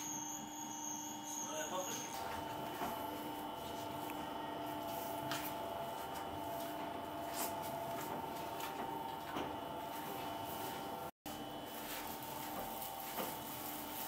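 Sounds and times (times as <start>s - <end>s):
dough mixer motor humming: 2.0s - 14.0s.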